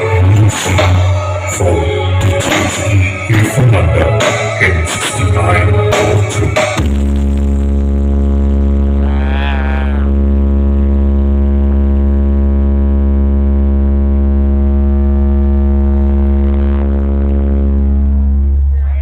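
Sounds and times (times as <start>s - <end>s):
deep bass drone: 0.0s - 19.0s.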